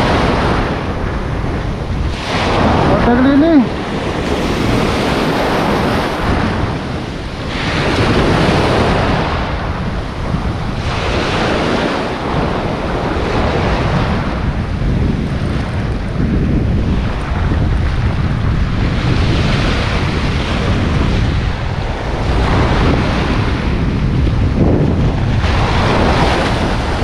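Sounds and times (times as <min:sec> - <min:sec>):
sea surf breaking: 0:00.0 - 0:27.0
wind buffeting microphone: 0:00.0 - 0:27.0.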